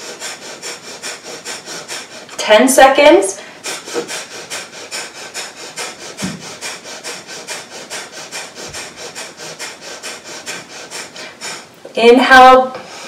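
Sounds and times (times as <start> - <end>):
rapid forceful nose breathing: 0.0 - 2.4, 3.3 - 11.9, 12.7 - 13.0.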